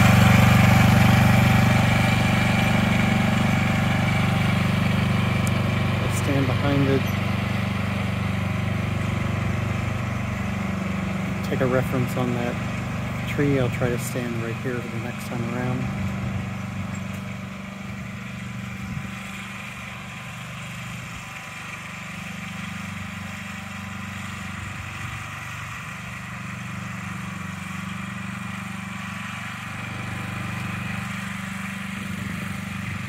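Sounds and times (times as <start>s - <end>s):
lawn tractor engine running: 0.0s - 33.0s.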